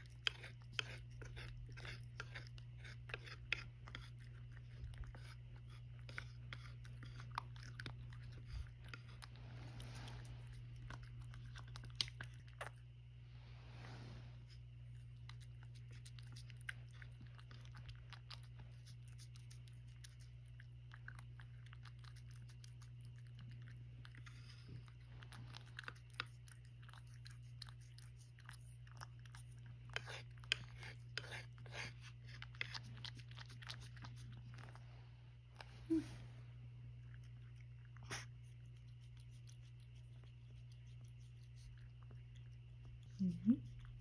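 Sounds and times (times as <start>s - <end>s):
cat licking and chewing: 0.0s - 44.0s.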